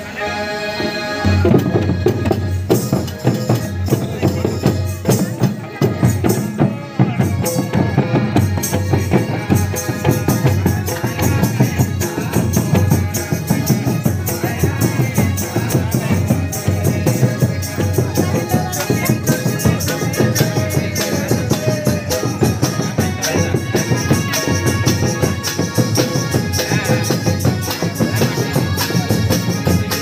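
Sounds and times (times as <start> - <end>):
held tune: 0.0 - 30.0
fast hand drumming: 1.5 - 30.0.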